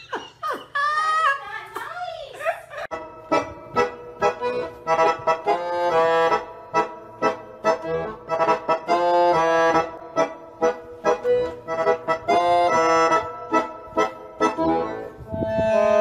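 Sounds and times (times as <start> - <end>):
bouncy instrumental music: 2.9 - 16.0.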